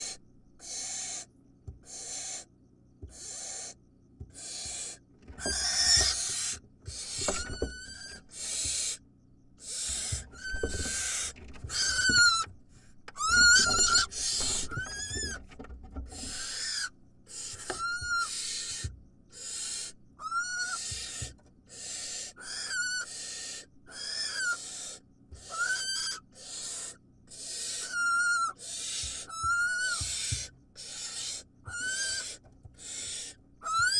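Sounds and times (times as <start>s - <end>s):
owl nestlings hissing begging calls: 0.0s - 2.5s, 3.1s - 9.0s, 9.6s - 12.4s, 13.2s - 15.4s, 16.1s - 33.9s.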